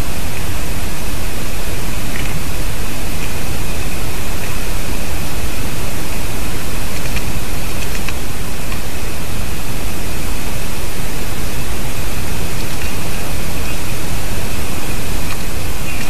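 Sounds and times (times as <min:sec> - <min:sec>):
faint high steady tone: 0:00.0 - 0:16.0
loud steady hiss: 0:00.0 - 0:16.0.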